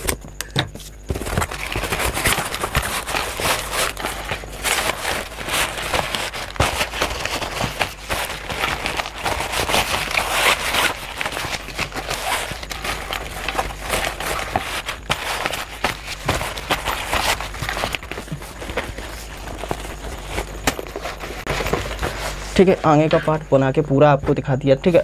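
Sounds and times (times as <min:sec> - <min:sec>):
low steady hum: 0:00.0 - 0:25.0
stiff fabric rustling: 0:00.8 - 0:23.4.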